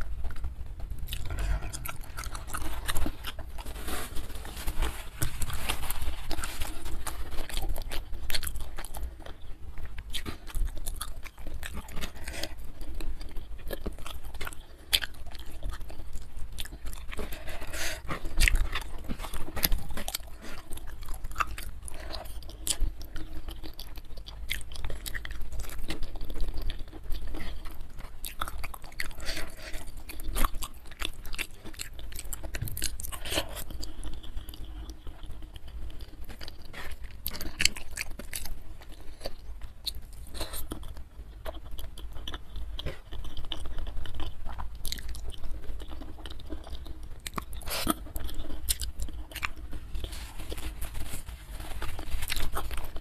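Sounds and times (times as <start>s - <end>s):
close chewing of food: 0.0s - 53.0s.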